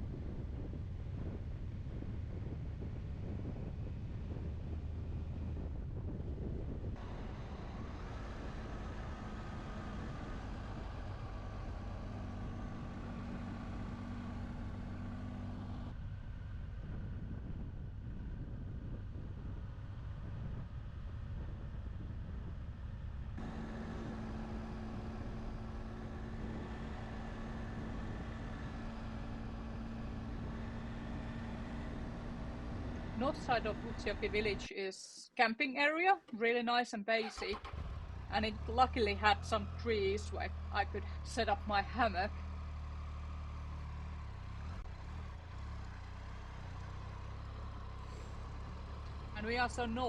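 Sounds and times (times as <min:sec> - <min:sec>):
wind and road rush: 0:00.0 - 0:34.8, 0:37.6 - 0:50.0
motorcycle engine droning: 0:00.9 - 0:20.1, 0:23.1 - 0:34.7, 0:37.3 - 0:50.0.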